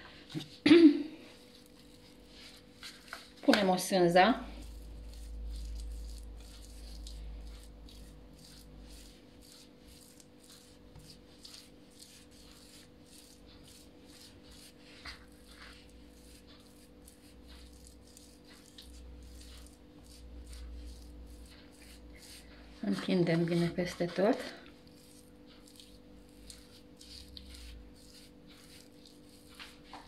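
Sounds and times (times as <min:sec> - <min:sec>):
hands smearing lard on dough: 0:00.0 - 0:30.0
steady low hum: 0:00.0 - 0:30.0.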